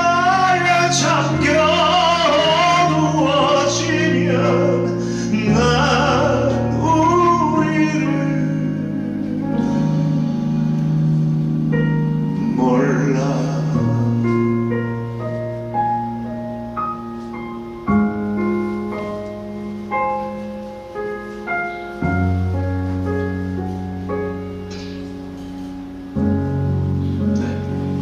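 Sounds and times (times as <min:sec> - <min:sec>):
slow piano ballad: 0:00.0 - 0:28.0.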